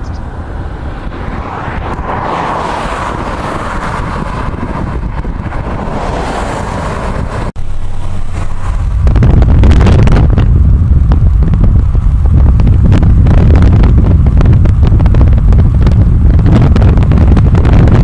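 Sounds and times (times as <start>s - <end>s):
car moving noise: 0.0s - 18.0s
wind buffeting microphone: 0.0s - 18.0s.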